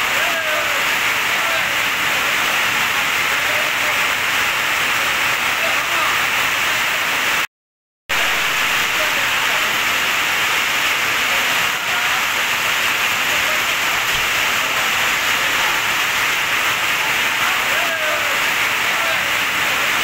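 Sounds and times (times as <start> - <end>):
heavy rain pouring: 0.0 - 7.5, 8.1 - 20.0.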